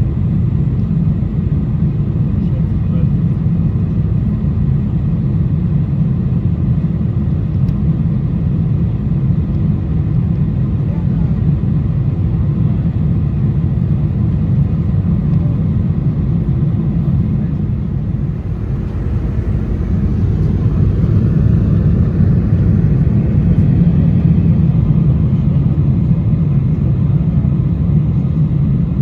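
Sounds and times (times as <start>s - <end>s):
airliner engines rumbling in cabin: 0.0s - 29.0s.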